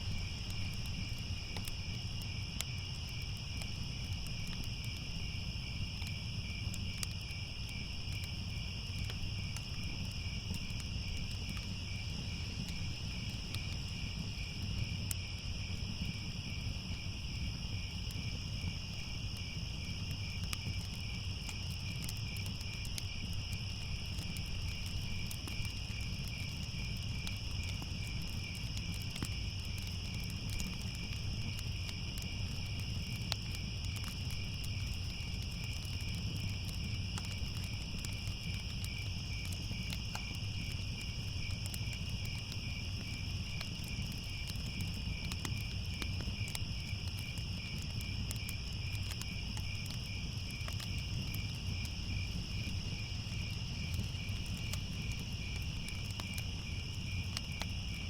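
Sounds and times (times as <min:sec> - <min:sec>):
fire rumbling and crackling: 0:00.0 - 0:58.0
night insects chirping: 0:00.0 - 0:58.0.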